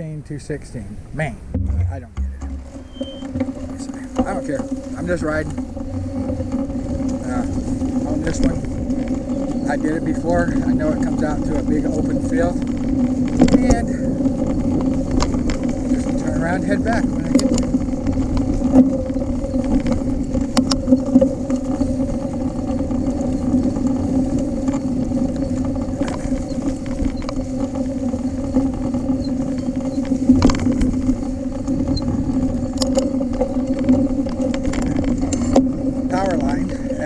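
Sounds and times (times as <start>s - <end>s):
bicycle hum and rumble: 0.0s - 37.0s
bike clicks and knocks over bumps: 1.5s - 37.0s.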